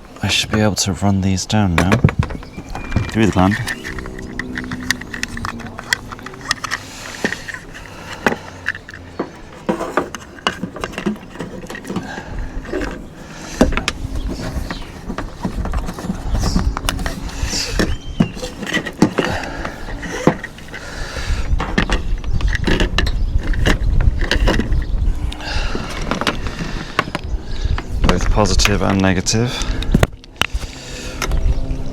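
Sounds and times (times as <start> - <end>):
cables clicking and rustling: 1.4 - 31.9.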